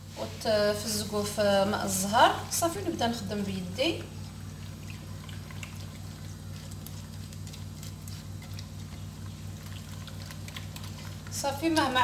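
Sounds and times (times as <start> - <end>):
steady low hum: 0.0 - 12.0
hand squishing wet mixture: 0.8 - 12.0.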